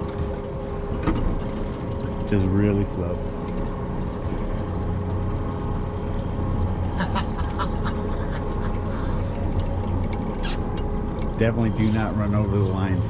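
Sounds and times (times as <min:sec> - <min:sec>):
outboard motors humming: 0:00.0 - 0:13.0.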